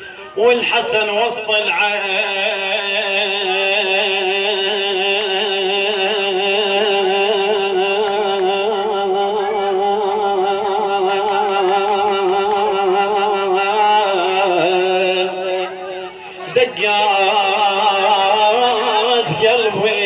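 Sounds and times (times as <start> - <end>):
person chanting unaccompanied: 0.0 - 20.0.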